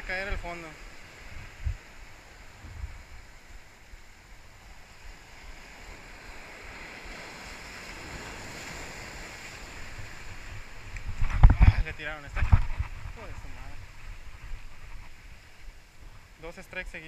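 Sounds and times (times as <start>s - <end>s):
surf washing over rocks: 0.0s - 17.0s
wind rumble on microphone: 0.0s - 17.0s.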